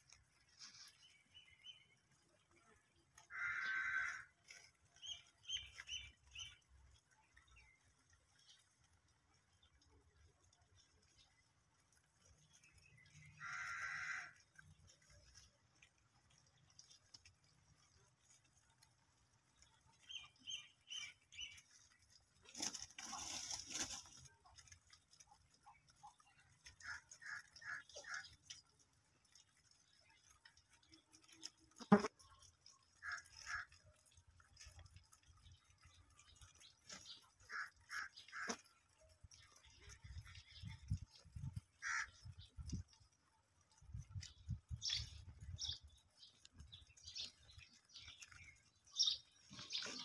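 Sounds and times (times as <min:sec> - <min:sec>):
rustling of grass and straw: 0:00.0 - 0:50.0.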